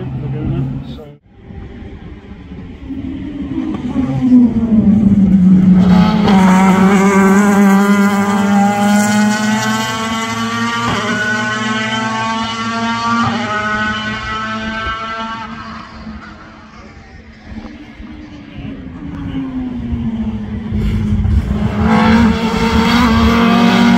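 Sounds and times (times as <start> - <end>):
engine upshifts: 0.0 - 23.9
race cars at full throttle: 0.0 - 23.9.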